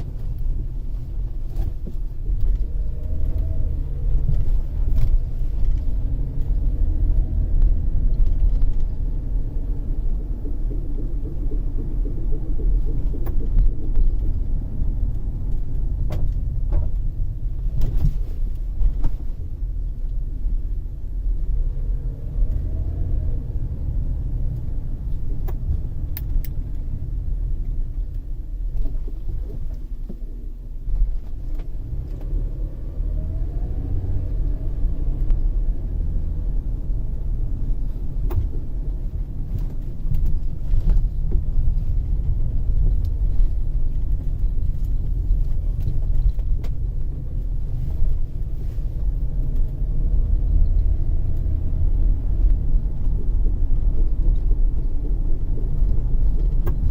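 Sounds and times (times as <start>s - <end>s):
road and tyre rumble: 0.0s - 56.9s.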